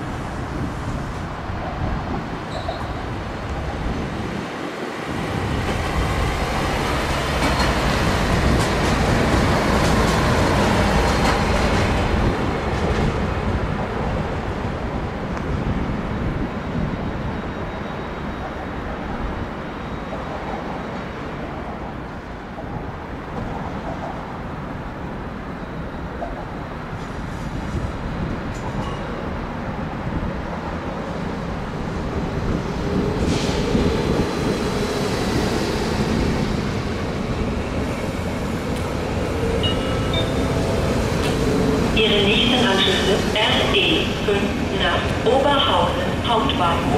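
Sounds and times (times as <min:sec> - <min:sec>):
train wheels rumbling on tracks: 0:00.0 - 0:46.9.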